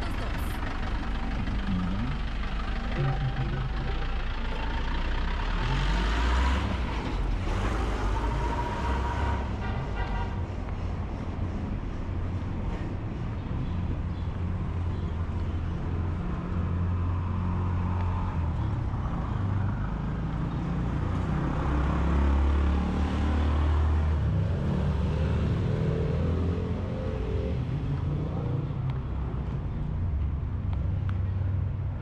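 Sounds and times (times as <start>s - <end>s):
car engines passing: 0.0s - 32.0s
low traffic rumble: 0.0s - 32.0s.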